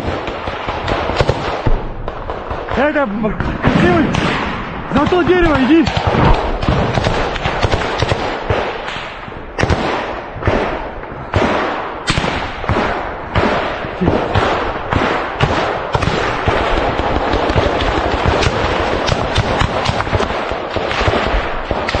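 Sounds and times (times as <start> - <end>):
small-arms gunfire crackle: 0.0 - 22.0.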